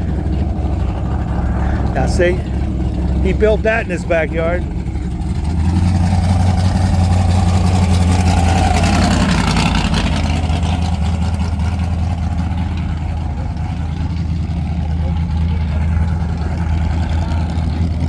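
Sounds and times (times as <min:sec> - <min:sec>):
truck engine exhaust rumble: 0:00.0 - 0:18.0.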